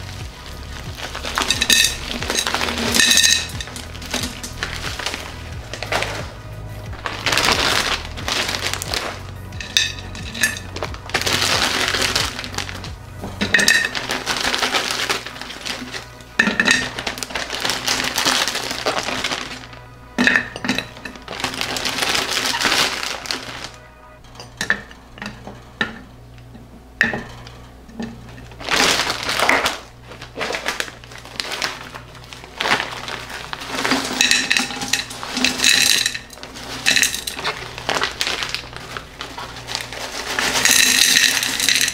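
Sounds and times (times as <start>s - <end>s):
fruit and sugar clinking into glass jar: 0.0s - 6.3s, 7.0s - 23.7s, 27.0s - 41.9s
plastic bag crinkling: 0.0s - 25.8s, 27.2s - 41.9s
background music: 0.0s - 41.9s.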